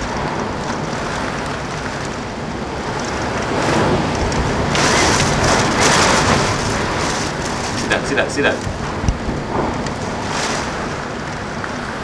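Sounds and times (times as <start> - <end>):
driving rain: 0.0 - 12.0
hurricane wind gusting: 0.0 - 12.0.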